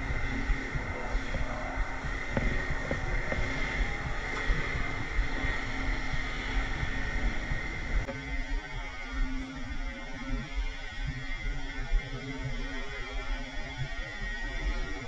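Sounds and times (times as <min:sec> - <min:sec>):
steady hum: 0:00.0 - 0:15.0
underwater rumble and hiss: 0:00.0 - 0:15.0.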